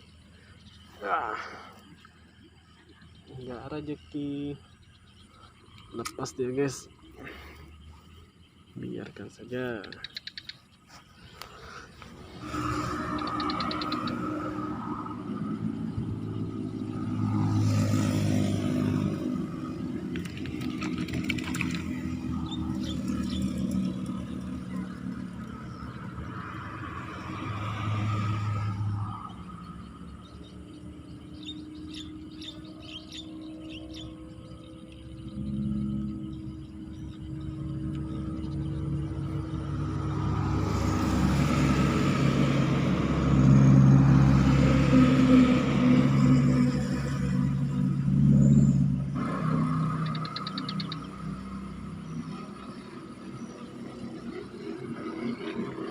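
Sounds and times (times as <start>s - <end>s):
motor vehicles passing: 0.0s - 55.9s.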